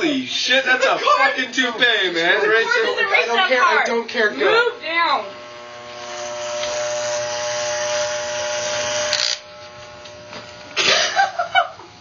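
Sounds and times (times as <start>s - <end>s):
electric hair clippers buzzing: 2.2s - 12.0s.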